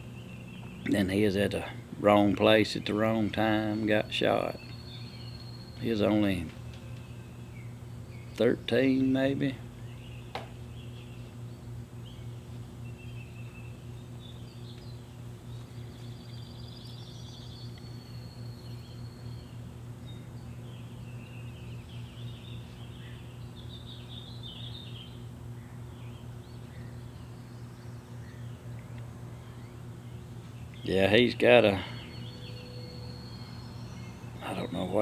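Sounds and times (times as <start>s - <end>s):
birds chirping: 0.0s - 35.0s
steady low hum: 0.0s - 35.0s.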